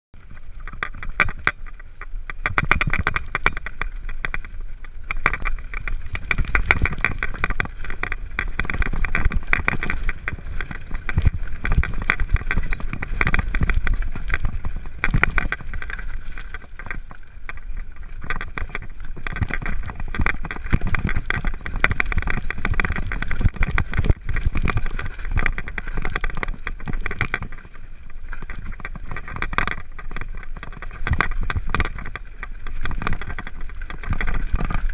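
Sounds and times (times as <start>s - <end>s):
bike rattling over stones: 0.2s - 34.9s
wind rumble on microphone: 0.2s - 34.9s.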